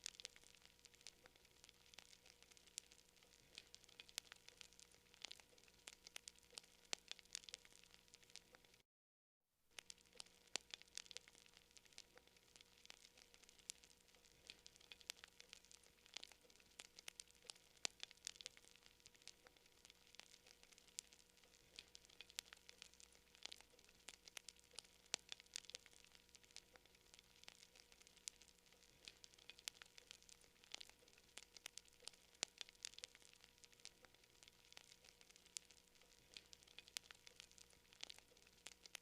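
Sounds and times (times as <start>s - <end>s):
campfire crackling: 0.0s - 8.8s, 9.8s - 39.0s
faint fire hiss: 0.0s - 8.8s, 9.7s - 39.0s.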